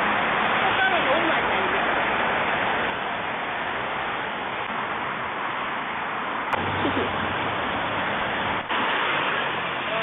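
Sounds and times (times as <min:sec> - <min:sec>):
rushing outdoor noise: 0:00.0 - 0:10.0.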